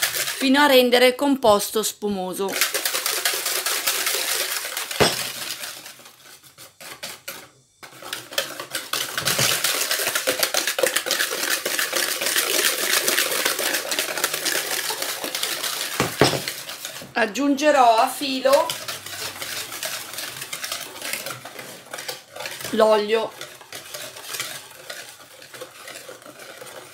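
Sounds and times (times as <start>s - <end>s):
whisk beating in plastic bowl: 2.5s - 26.9s.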